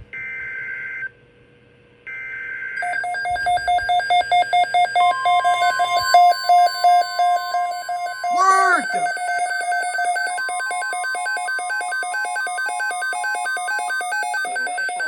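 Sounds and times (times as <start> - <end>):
rapid electronic alarm beeping: 2.4 - 15.0
steady warning tone: 2.9 - 15.0.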